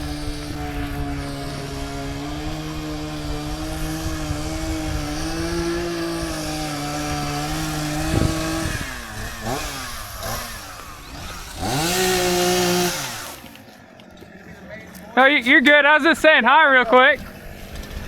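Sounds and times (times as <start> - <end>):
chainsaw running at high revs: 0.0 - 13.6, 16.5 - 18.0.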